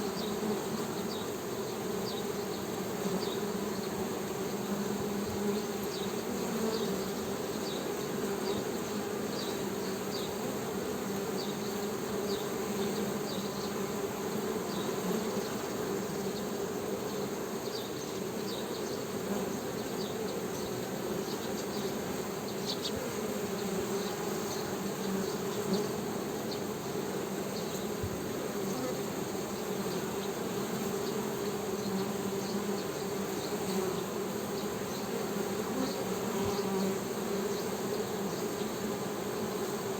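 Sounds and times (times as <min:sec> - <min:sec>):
honey bees buzzing: 0:00.0 - 0:39.9.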